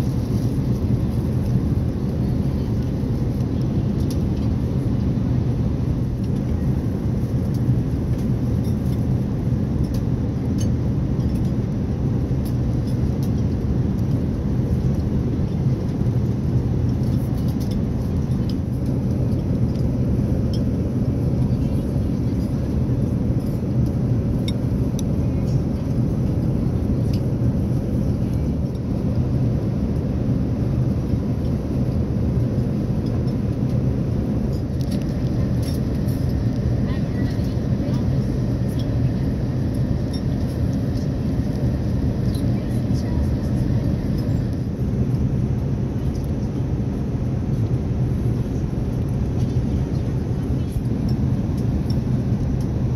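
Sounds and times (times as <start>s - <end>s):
airplane cabin drone: 0.0s - 52.9s.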